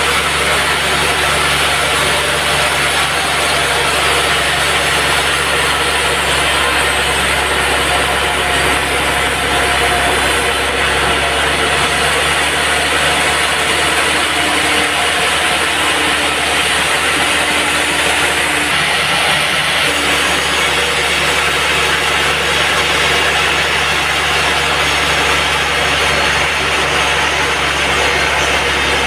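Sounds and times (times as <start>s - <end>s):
low motor hum: 0.0s - 29.0s
saw blade cutting log: 0.0s - 29.0s.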